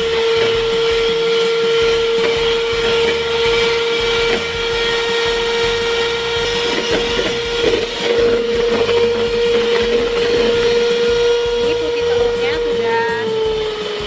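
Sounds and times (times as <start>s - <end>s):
electric hand mixer whining: 0.0s - 14.0s.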